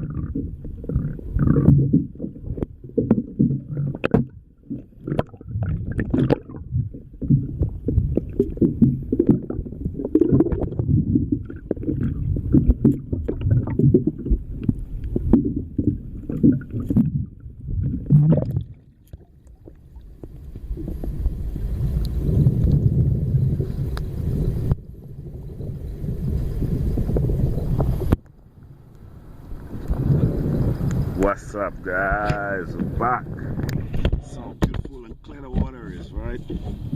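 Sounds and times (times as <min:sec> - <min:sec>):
muffled water sloshing underwater: 0:00.0 - 0:36.9
steady water rushing: 0:00.0 - 0:36.9.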